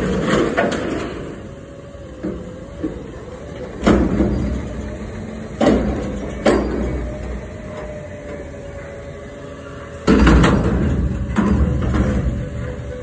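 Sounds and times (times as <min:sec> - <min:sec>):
hydraulics whining: 0:00.0 - 0:13.0
truck engine rumbling: 0:00.0 - 0:13.0.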